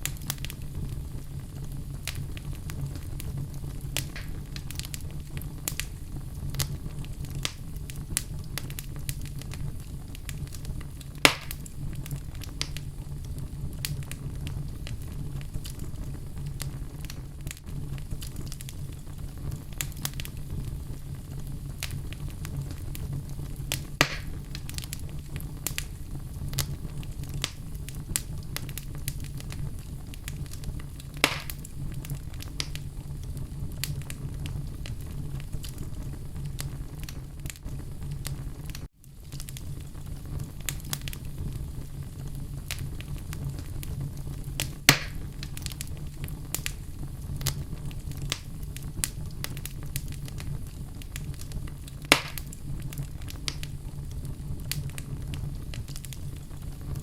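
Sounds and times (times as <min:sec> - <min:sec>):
fire crackling: 0:00.0 - 0:57.0
fire rumbling in a fireplace: 0:00.0 - 0:57.0
loud fire pops: 0:00.0 - 0:57.0.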